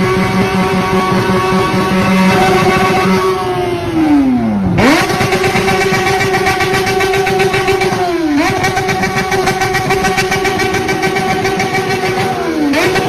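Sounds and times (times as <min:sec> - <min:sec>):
motorcycle engine screaming at high revs: 0:00.0 - 0:13.0.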